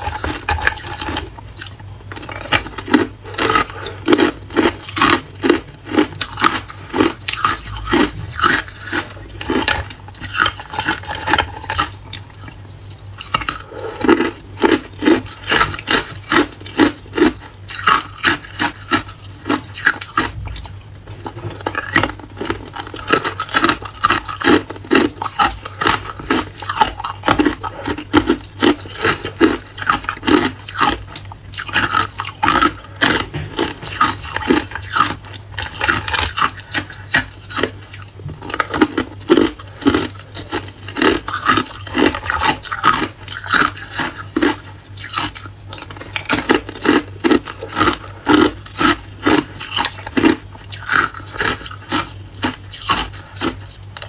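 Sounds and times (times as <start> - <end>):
ice cubes crunched between teeth: 0.0 - 54.0.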